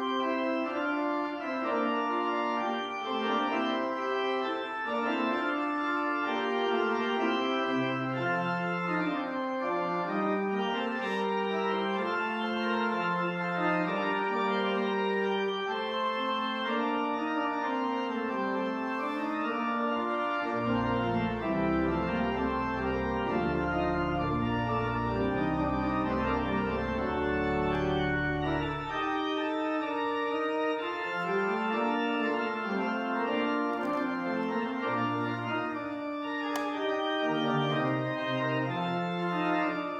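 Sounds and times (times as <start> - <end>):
deep organ pedal bass notes: 0.0 - 39.9
organ playing sustained chords: 0.0 - 39.9.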